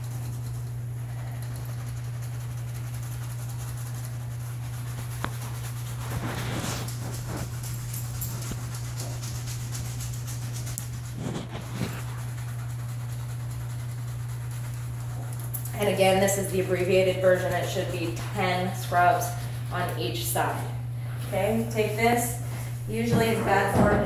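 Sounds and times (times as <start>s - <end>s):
scrub brush scratching skin: 0.0s - 24.0s
steady low hum: 0.0s - 24.0s.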